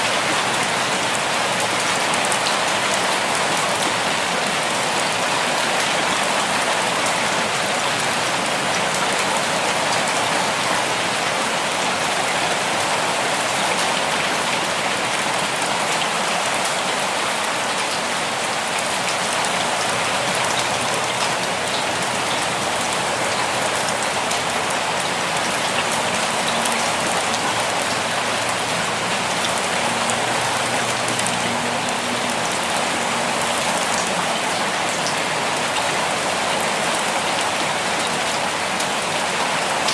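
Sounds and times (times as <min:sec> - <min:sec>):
gentle rainfall: 0:00.0 - 0:39.9.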